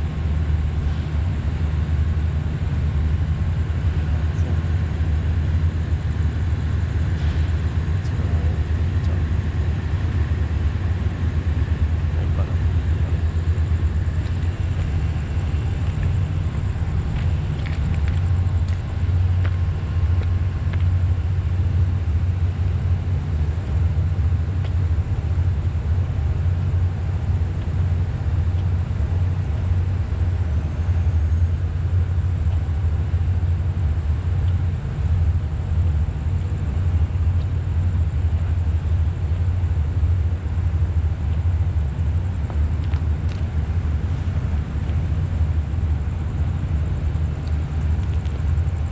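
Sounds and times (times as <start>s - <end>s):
low rumble: 0.0s - 48.9s.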